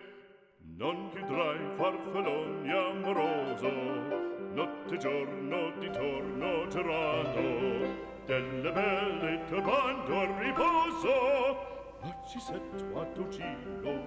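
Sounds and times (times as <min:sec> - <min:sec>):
operatic singer with vibrato: 0:00.0 - 0:14.0
orchestral accompaniment: 0:00.8 - 0:14.0.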